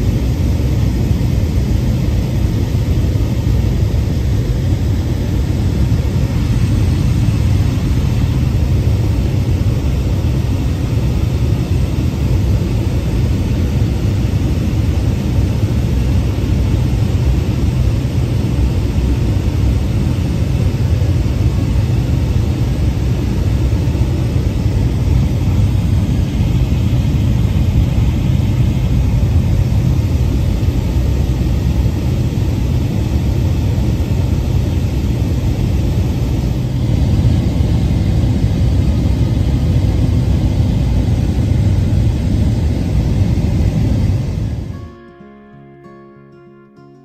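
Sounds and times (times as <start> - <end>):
light aircraft engine drone: 0.0 - 44.9.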